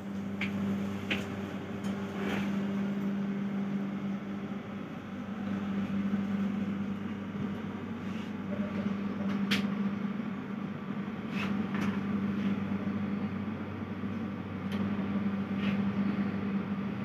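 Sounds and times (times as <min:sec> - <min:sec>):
train carriage hum: 0:00.0 - 0:17.0.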